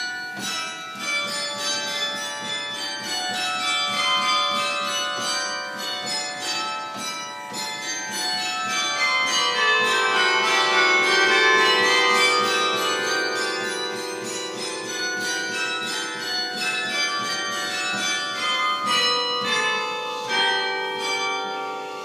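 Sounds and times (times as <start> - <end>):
carillon bells playing a tune: 0.0 - 22.0.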